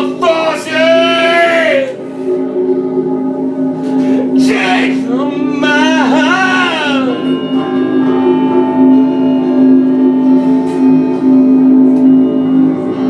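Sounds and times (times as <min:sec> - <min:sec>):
droning instrumental music: 0:00.0 - 0:13.0.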